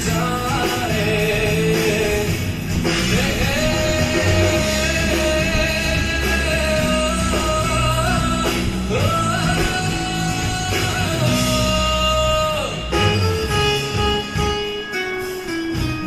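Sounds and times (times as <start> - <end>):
rock song with singer: 0.0 - 16.0.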